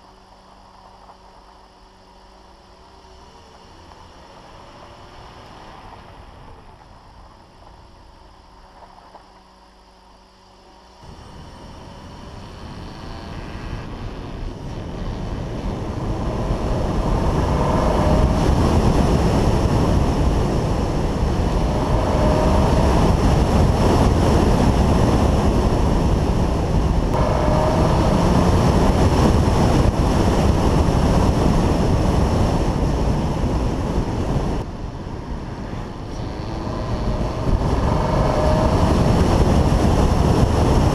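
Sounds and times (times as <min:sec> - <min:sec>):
car engine tyre and wind noise: 0:00.0 - 0:40.9.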